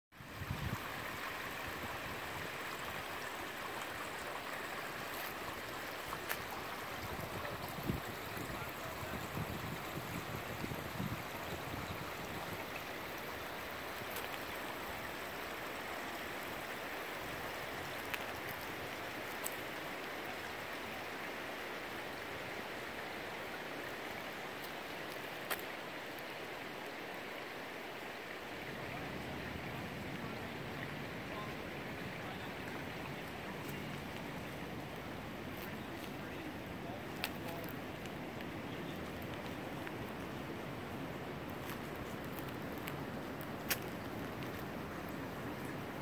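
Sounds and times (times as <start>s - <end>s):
creek running over stones: 0.1s - 46.0s.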